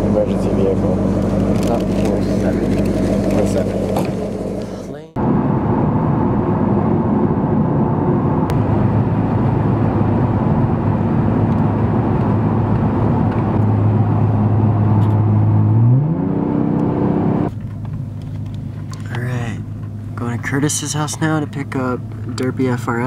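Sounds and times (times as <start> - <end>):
car engine hum: 0.0 - 23.0
road noise roar: 0.0 - 23.0.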